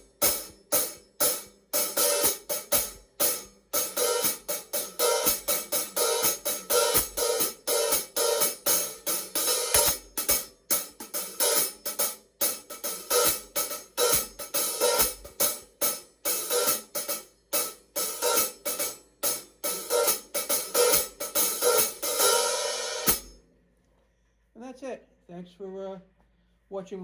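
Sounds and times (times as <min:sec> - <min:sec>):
hi-hats played with sticks: 0:00.0 - 0:23.4.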